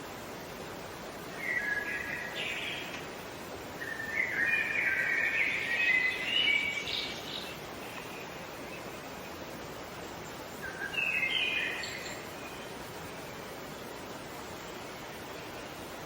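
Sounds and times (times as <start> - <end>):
steady background hiss: 0.0 - 16.0
bird song chirping: 1.3 - 3.1, 3.8 - 9.4, 10.2 - 16.0.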